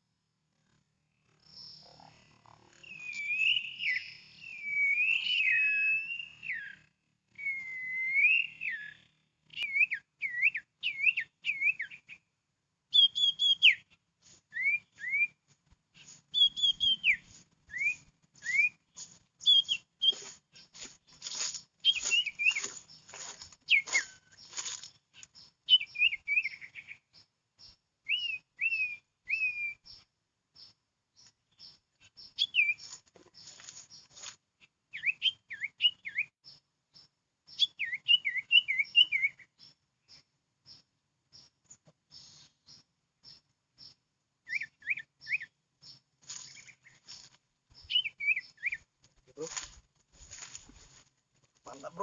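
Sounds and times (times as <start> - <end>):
songbirds whistling and chirping: 2.7 - 12.3, 12.9 - 50.6.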